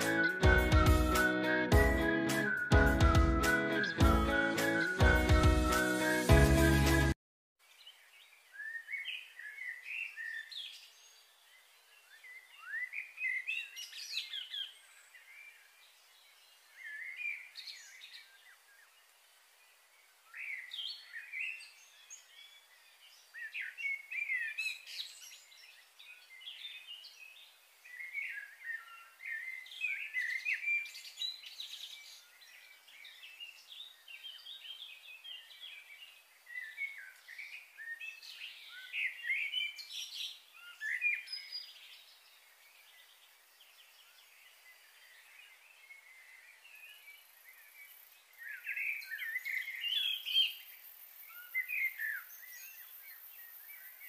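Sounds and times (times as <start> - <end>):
small birds chirping: 7.6 - 54.0.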